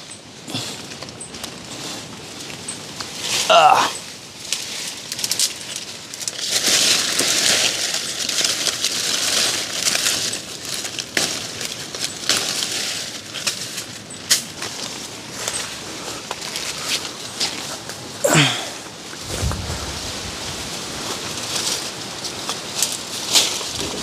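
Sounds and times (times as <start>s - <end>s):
leaves and twigs rustling: 0.0s - 24.0s.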